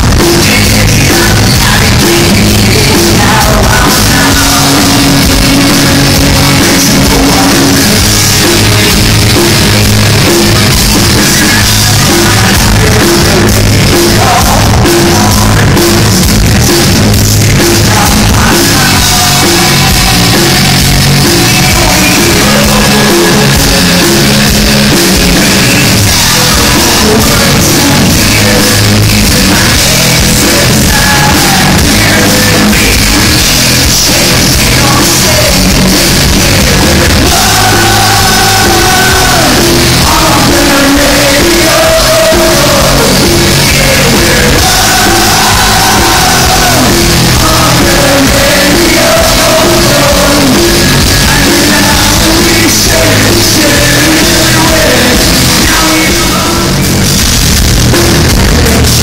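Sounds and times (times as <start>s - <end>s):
person singing: 0.0s - 57.0s
drums: 0.0s - 59.0s
electric guitar: 0.0s - 59.0s.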